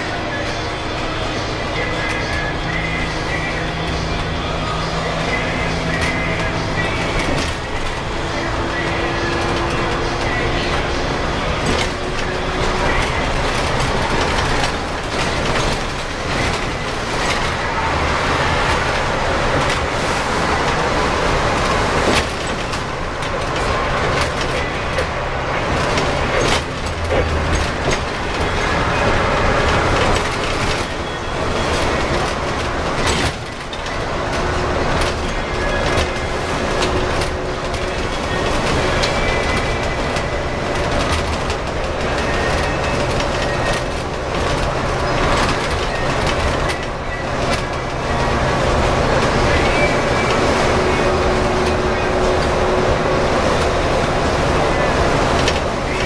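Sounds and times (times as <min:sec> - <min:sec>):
bus body rattles and clunks: 0:00.0 - 0:56.0
bus diesel engine running: 0:00.0 - 0:56.0
road noise: 0:00.0 - 0:56.0.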